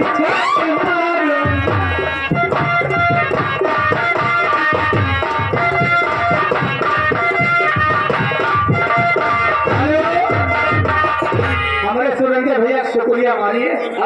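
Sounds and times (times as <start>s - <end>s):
held melody line: 0.0s - 12.1s
fast hand drum rhythm: 0.0s - 12.2s.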